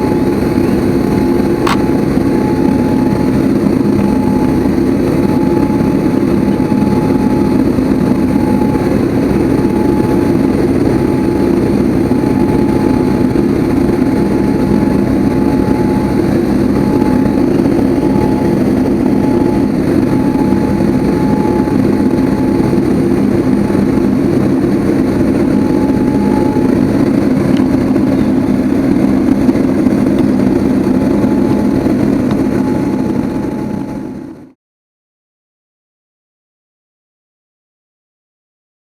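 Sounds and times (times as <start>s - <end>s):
jet engines rumbling and whining: 0.0s - 34.6s.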